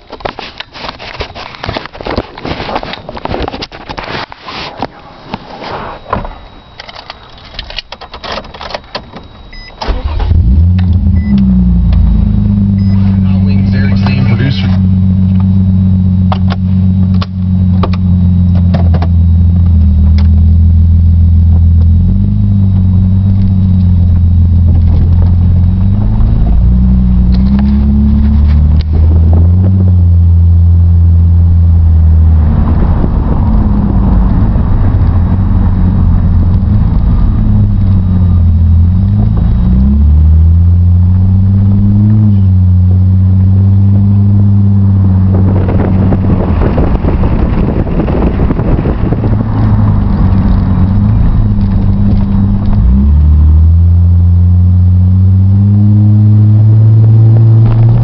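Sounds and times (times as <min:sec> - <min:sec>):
deep exhaust drone: 0:09.2 - 0:58.0
car engine accelerating through gears: 0:09.6 - 0:58.0.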